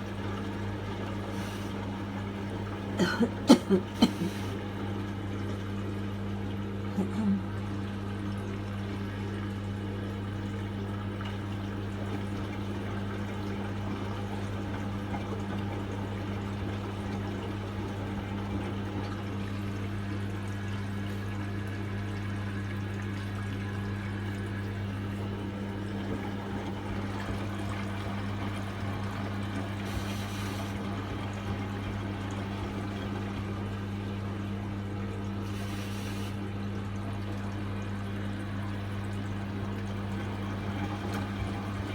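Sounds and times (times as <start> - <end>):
water running into washing machine: 0.0 - 41.9.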